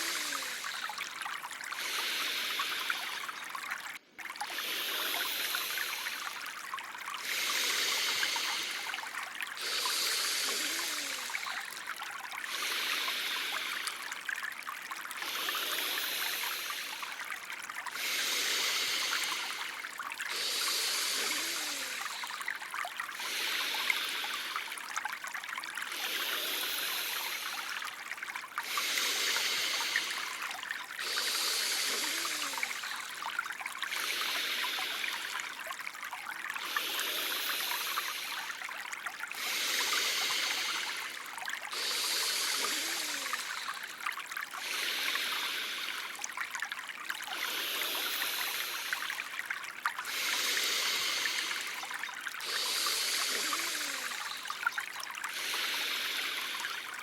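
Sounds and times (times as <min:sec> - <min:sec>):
hissing nasal breaths: 0:00.0 - 0:14.2, 0:14.8 - 0:25.0, 0:25.7 - 0:35.7, 0:36.6 - 0:46.6, 0:47.2 - 0:49.3, 0:50.0 - 0:57.0
trickling stream: 0:00.0 - 0:57.0.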